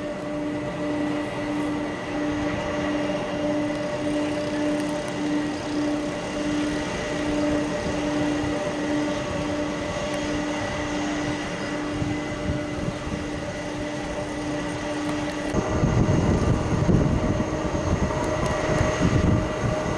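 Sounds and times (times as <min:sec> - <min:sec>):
jet engines running: 0:00.0 - 0:19.9.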